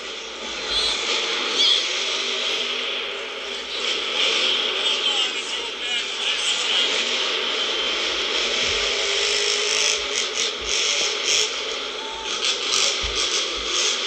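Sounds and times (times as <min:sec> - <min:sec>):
monster truck engine running hard: 0:00.0 - 0:14.0.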